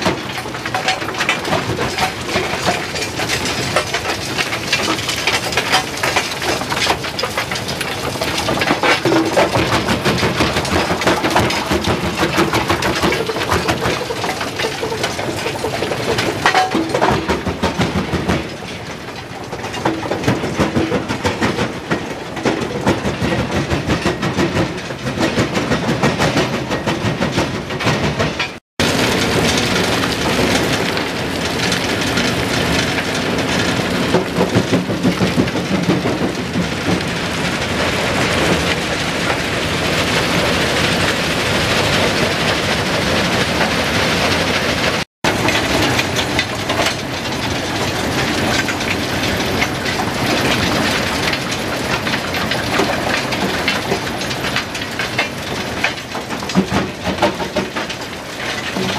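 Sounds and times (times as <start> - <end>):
rock clattering through feeders: 0.0 - 58.9.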